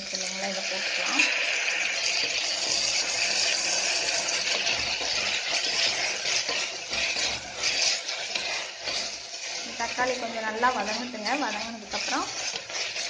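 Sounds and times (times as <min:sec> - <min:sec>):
vegetables sizzling in hot oil: 0:00.0 - 0:13.0
wooden spatula stirring: 0:00.0 - 0:13.0.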